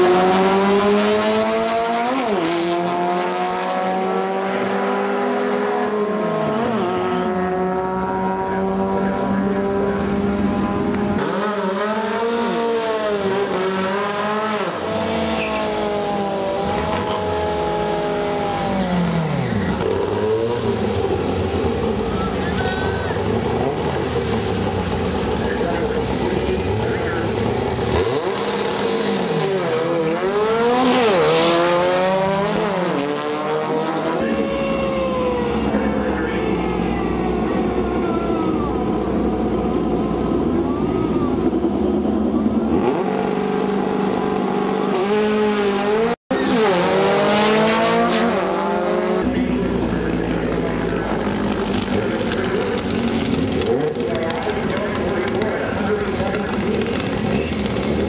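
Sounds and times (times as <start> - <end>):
race car engines revving: 0.0 - 58.0
tyre and exhaust rush: 0.0 - 58.0.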